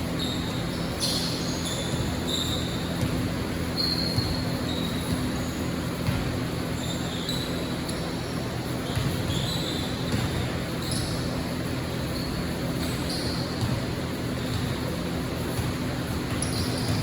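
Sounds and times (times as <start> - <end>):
hall noise with low hum: 0.0 - 17.0
sneakers squeaking on floor: 0.0 - 17.0
basketball bouncing: 0.5 - 17.0.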